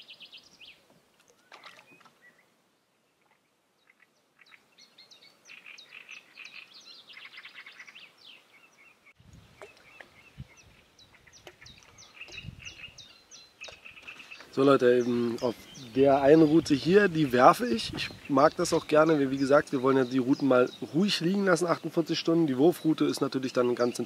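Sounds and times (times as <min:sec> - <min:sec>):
songbirds chirping and singing: 0:03.8 - 0:24.0.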